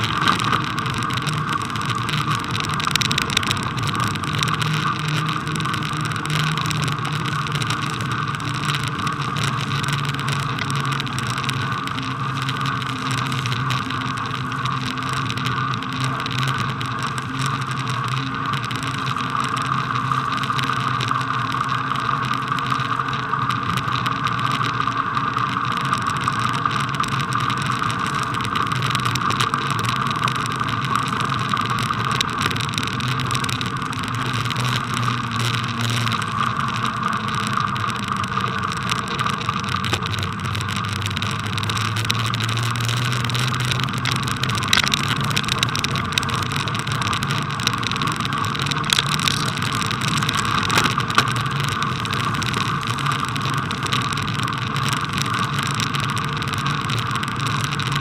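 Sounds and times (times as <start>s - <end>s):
rattling clicks over bumps: 0.0s - 24.8s, 25.6s - 58.0s
bicycle rolling on snow: 0.0s - 58.0s.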